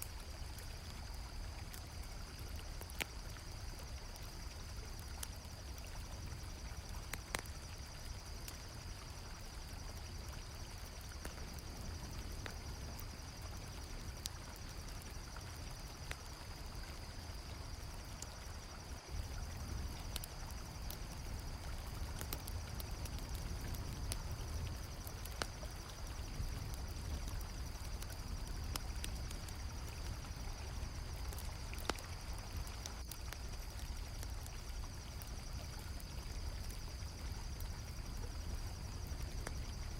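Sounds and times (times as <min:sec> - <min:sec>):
campfire crackling: 0:00.0 - 0:39.9
crickets trilling: 0:00.0 - 0:39.9.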